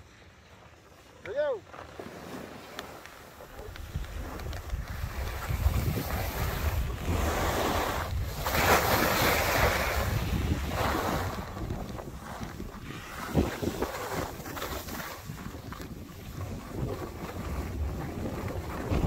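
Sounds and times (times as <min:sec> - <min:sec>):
skis scraping on snow: 0:00.0 - 0:19.0
wind buffeting microphone: 0:03.4 - 0:19.0.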